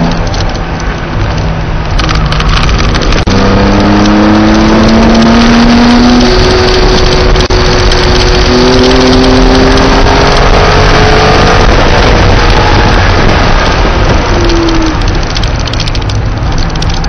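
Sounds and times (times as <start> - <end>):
car engine accelerating: 0.0 - 17.0
wind and road noise: 0.0 - 17.0.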